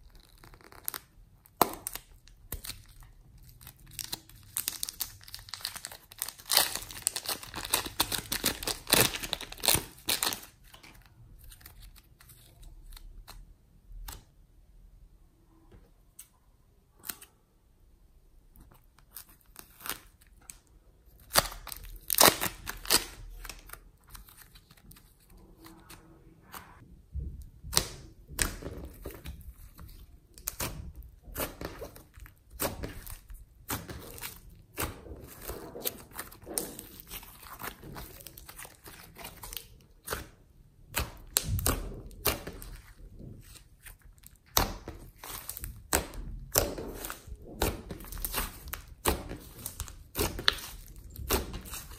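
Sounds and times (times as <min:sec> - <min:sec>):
slime crackling and tearing: 0:00.0 - 0:14.3, 0:18.6 - 0:26.8, 0:27.6 - 0:51.9.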